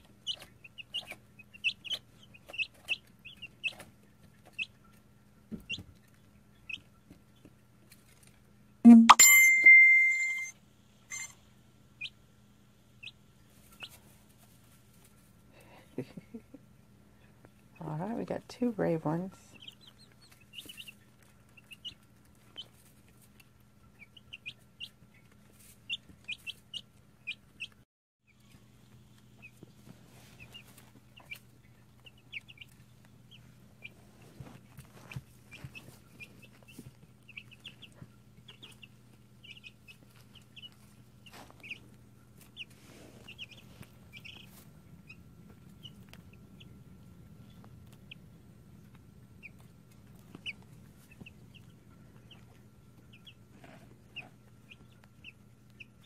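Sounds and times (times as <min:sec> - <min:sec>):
chicks peeping: 0:00.0 - 0:09.1, 0:11.9 - 0:56.0
low steady hum: 0:00.0 - 0:56.0.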